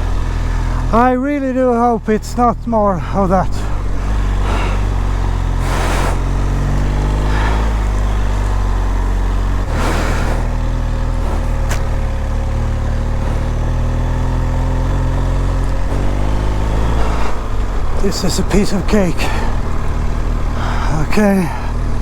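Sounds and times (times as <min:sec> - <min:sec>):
motorcycle engine running: 0:00.0 - 0:22.0
rushes of noise: 0:03.2 - 0:22.0.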